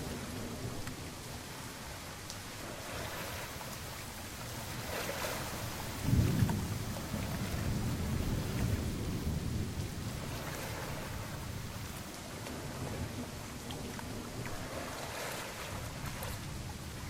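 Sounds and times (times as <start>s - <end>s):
rain hiss: 0.0s - 17.0s
thunder rumble: 0.0s - 17.0s.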